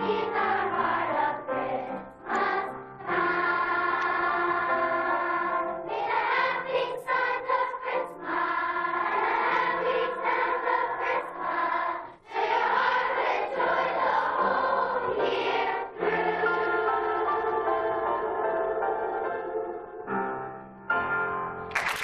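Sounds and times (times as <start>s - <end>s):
children's chorus singing: 0.0s - 19.8s.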